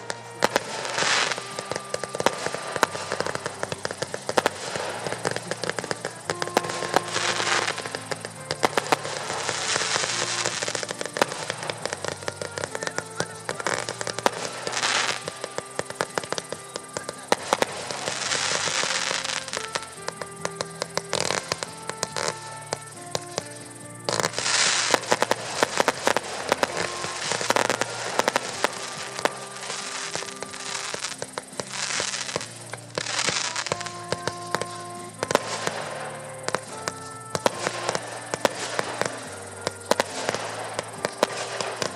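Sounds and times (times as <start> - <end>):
firework cracks and pops: 0.0 - 41.9
firework hissing: 0.0 - 41.9
music: 0.0 - 41.9.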